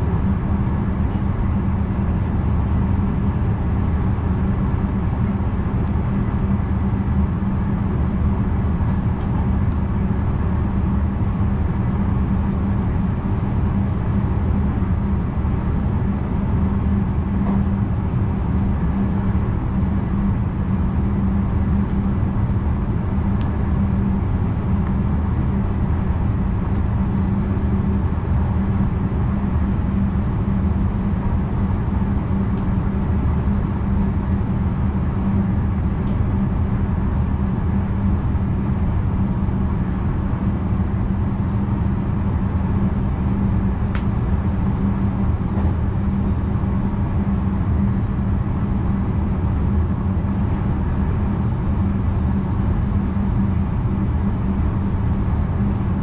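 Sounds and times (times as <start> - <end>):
electric train running hum: 0.0 - 56.0.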